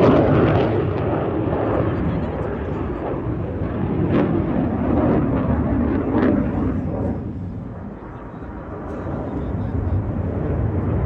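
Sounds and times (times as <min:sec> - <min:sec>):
fighter jet flying overhead: 0:00.0 - 0:11.0.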